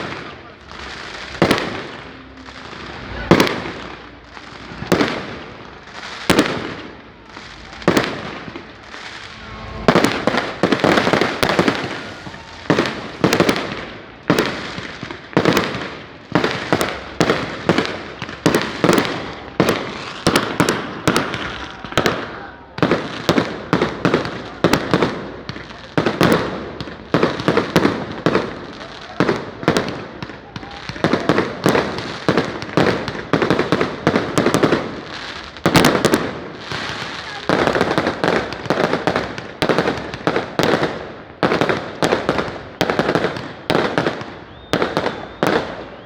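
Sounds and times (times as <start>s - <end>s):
firecrackers banging: 0.0s - 46.0s.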